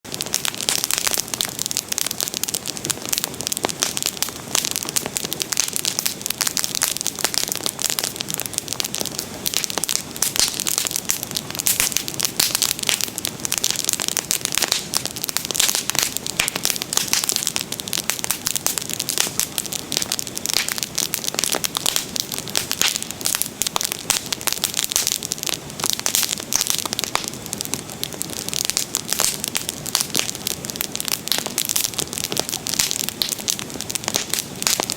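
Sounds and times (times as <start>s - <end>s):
bonfire crackling: 0.0s - 34.9s.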